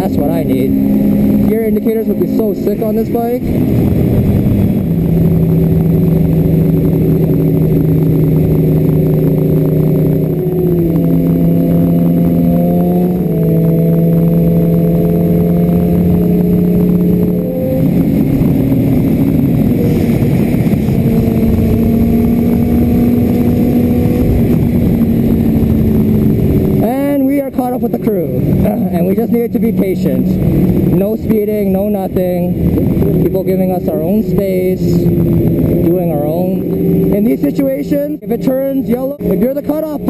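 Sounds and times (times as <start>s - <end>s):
wind rush on helmet: 0.0s - 37.5s
motorcycle engine running: 0.0s - 40.0s.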